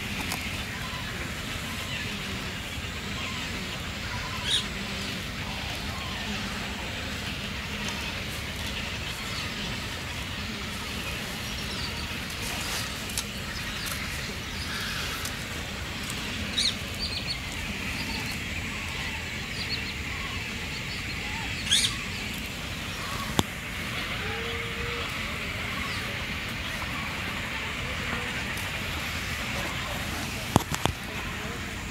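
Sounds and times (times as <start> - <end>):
background noise: 0.0 - 31.9
birds chirping: 0.0 - 31.9.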